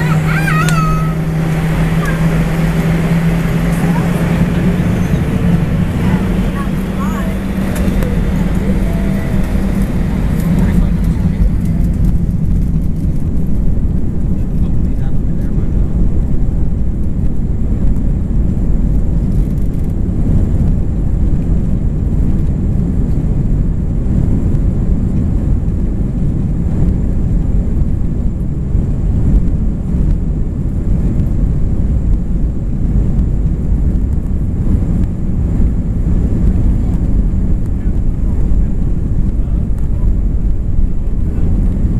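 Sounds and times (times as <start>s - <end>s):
jet engines low rumble: 0.0s - 41.9s.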